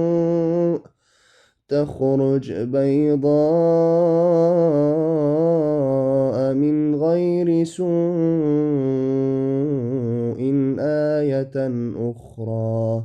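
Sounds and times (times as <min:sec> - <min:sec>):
man chanting melodically: 0:00.0 - 0:00.9, 0:01.7 - 0:13.0.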